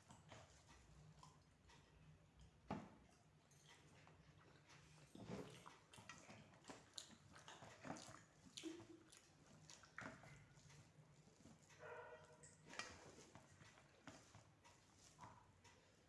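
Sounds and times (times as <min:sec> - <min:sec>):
person eating softly: 0:00.0 - 0:16.0.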